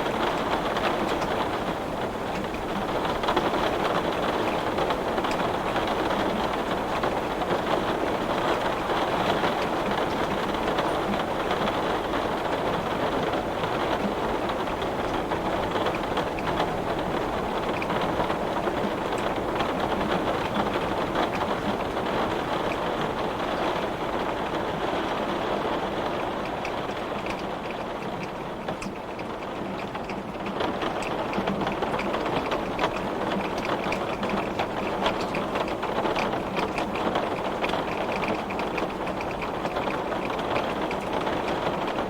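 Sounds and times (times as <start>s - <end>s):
heavy rain on window glass: 0.0s - 42.0s.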